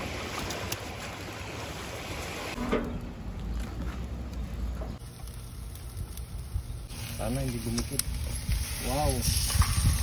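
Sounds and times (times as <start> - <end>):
wind: 0.0 - 10.0.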